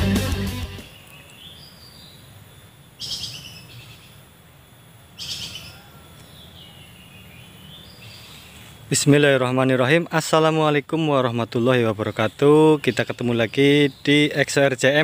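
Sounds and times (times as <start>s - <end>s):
bird chirping: 0.6s - 15.0s.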